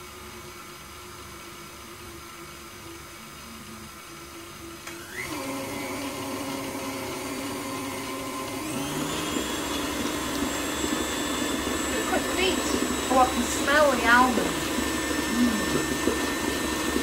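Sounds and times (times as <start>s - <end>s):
stand mixer beating batter: 0.0s - 17.0s.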